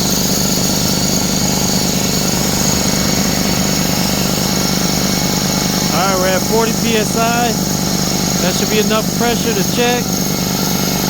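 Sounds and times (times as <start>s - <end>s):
air compressor running: 0.0s - 11.0s.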